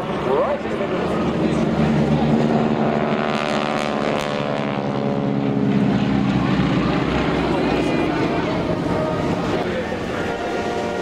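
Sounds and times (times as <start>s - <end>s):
propeller aircraft drone: 0.0s - 11.0s.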